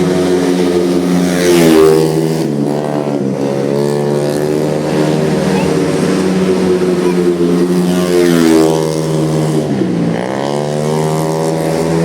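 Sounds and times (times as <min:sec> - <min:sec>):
scooter engines revving hard: 0:00.0 - 0:12.0.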